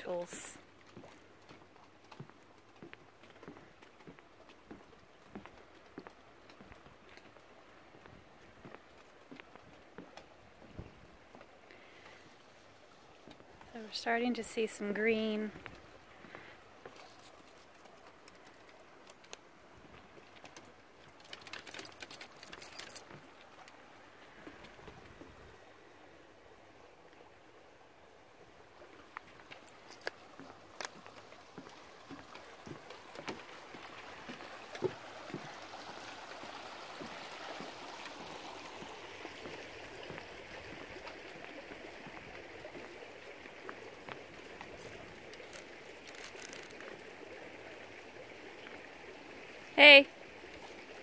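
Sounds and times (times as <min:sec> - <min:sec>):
rushing creek: 0:00.0 - 0:51.0.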